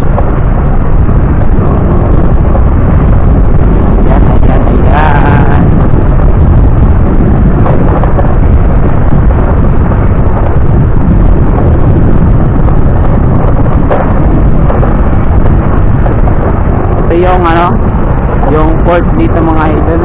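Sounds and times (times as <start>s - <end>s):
road and vehicle noise: 0.0s - 20.0s
wind buffeting microphone: 0.0s - 20.0s.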